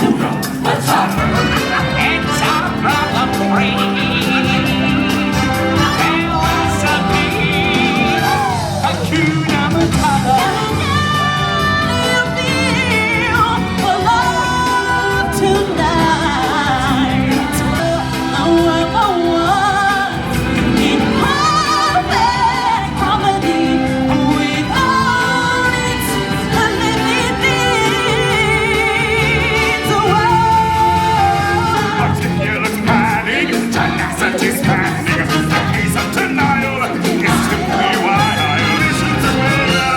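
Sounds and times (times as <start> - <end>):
loud backing track: 0.0 - 39.9
singers holding wavering notes: 0.0 - 39.9.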